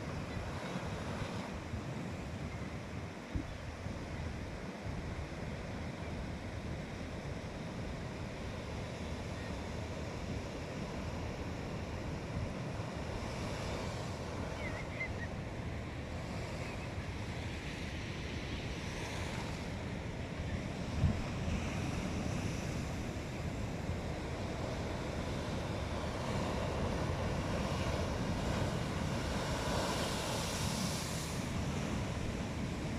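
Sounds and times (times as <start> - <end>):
sea waves breaking on shore: 0.0 - 32.9.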